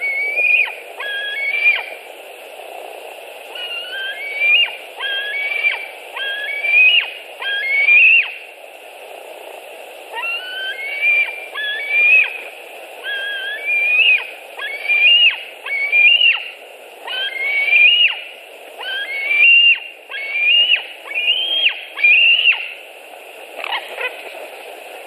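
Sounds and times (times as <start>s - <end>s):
eagle calling: 0.0s - 2.0s, 3.6s - 8.4s, 10.1s - 22.8s, 23.6s - 24.2s
steady low hiss: 0.0s - 25.0s.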